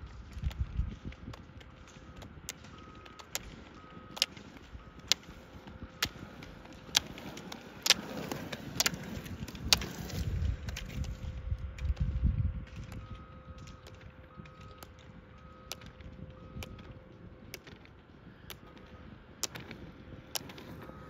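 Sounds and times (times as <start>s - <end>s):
roller-ski wheels rumbling on pavement: 0.0s - 21.0s
ski pole tips clicking on asphalt: 0.1s - 21.0s.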